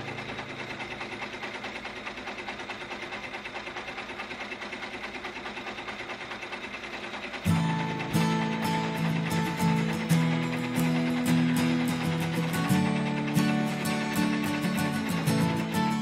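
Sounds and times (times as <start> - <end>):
embroidery machine stitching: 0.0 - 16.0.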